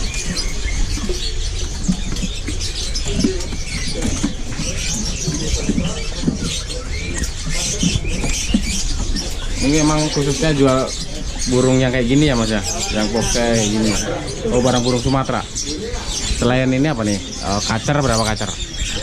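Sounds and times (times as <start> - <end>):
scratching and fluttering in cages: 0.0 - 19.0
songbirds chirping: 0.0 - 19.0.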